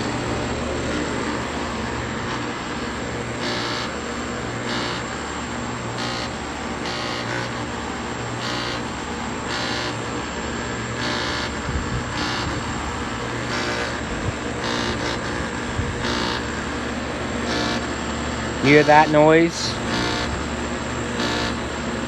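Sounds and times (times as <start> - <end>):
air conditioner compressor hum: 0.0 - 22.0.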